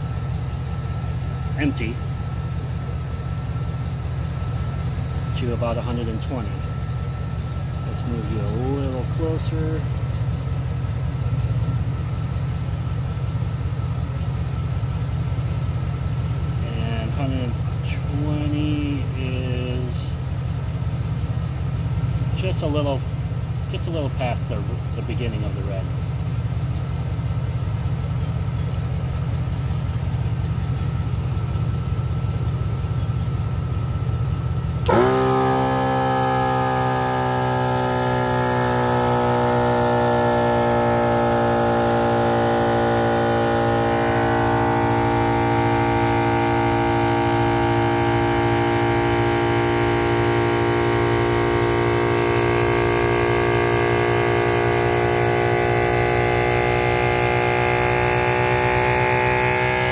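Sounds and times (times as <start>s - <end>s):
air compressor running: 0.0s - 59.9s.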